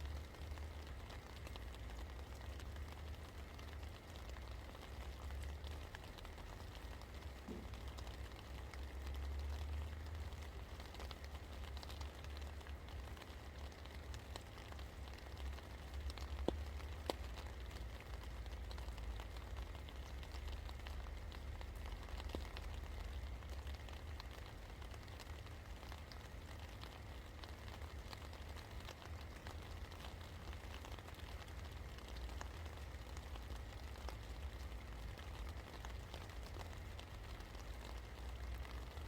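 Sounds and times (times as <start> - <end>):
rain falling: 0.0 - 39.0
raindrops tapping: 0.0 - 39.0.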